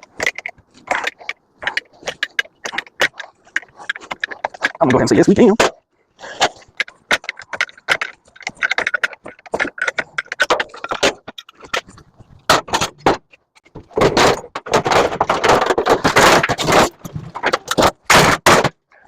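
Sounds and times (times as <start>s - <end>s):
metal parts clicking and rattling: 0.0s - 18.8s.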